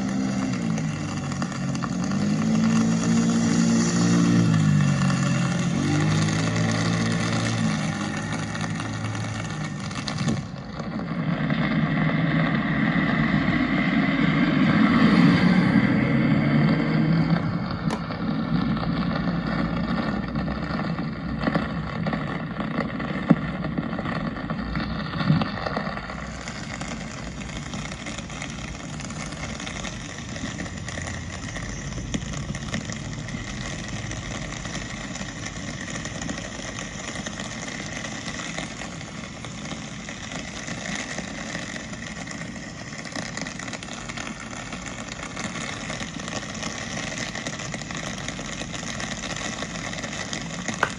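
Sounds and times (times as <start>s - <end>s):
vehicle engine running: 0.0s - 41.5s
rain hiss: 0.0s - 50.9s
traffic: 0.0s - 50.9s.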